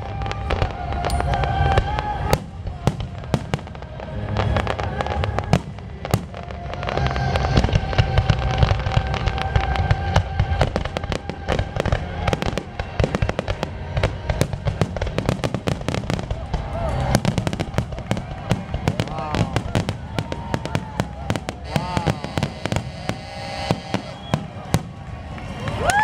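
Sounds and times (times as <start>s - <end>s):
fireworks banging and crackling: 0.0s - 26.0s
music playing: 0.0s - 26.0s.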